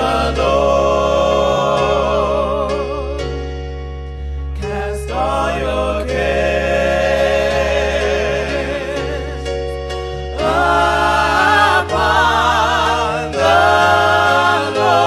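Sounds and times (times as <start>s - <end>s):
gospel singing voices: 0.0s - 3.6s, 4.2s - 15.0s
sustained chords: 0.0s - 15.0s.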